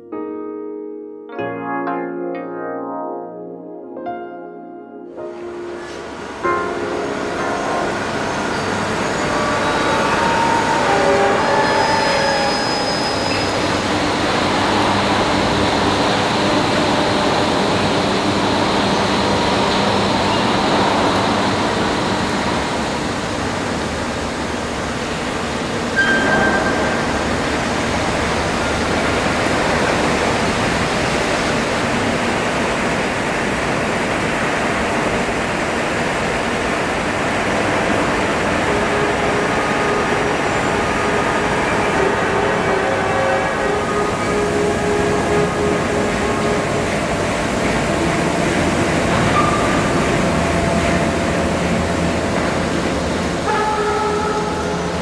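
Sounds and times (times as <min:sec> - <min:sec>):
train running noise: 0:05.3 - 0:55.0.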